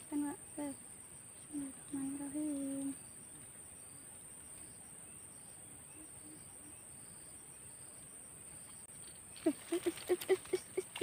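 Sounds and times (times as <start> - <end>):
insect buzz: 0.0 - 11.0.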